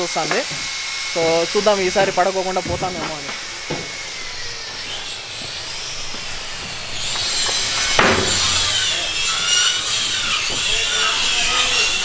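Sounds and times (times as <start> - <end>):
power tool whining on wood: 0.0 - 12.0.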